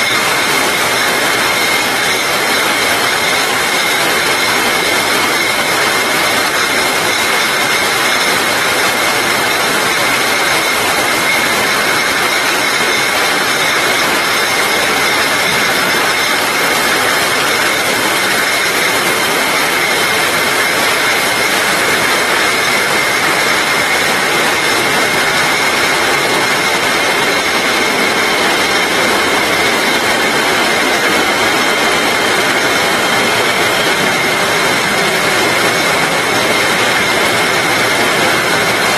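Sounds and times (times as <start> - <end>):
bottling machine whining: 0.0 - 38.9.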